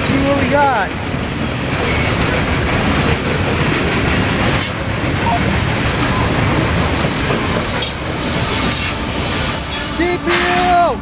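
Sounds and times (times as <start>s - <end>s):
steel wheels rumbling on rail: 0.0s - 11.0s
wheels clacking over rail joints: 0.0s - 11.0s.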